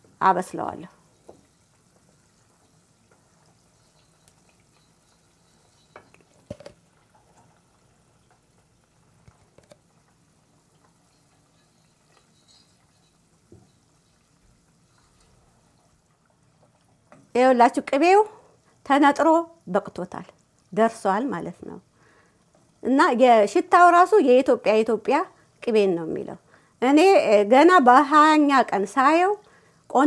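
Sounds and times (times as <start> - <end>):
faint butter sizzling: 0.0 - 30.0.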